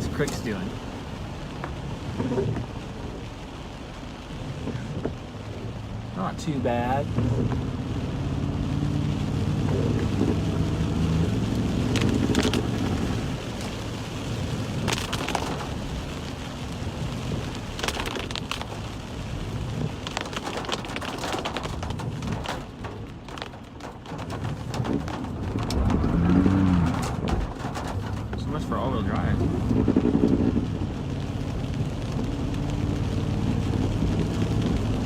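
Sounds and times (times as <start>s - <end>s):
sharp taps and splashes: 0.0s - 5.8s, 6.7s - 35.0s
car engine hum: 0.0s - 35.0s
rain on a car: 0.0s - 35.0s
wet tyres on road: 0.0s - 35.0s.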